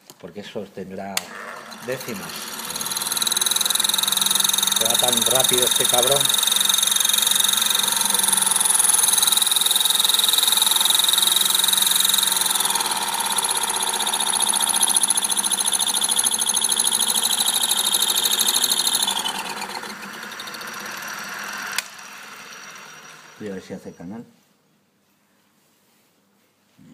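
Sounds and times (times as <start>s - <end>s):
lathe motor running: 1.2s - 23.9s.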